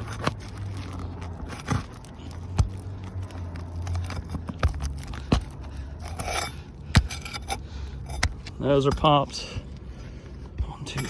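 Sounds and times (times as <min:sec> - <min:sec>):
shingle crackling and crunching: 0:00.0 - 0:09.8.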